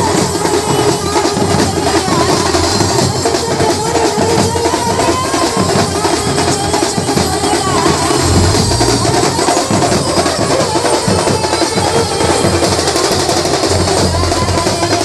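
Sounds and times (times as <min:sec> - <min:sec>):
driving drums and percussion: 0:00.0 - 0:15.0.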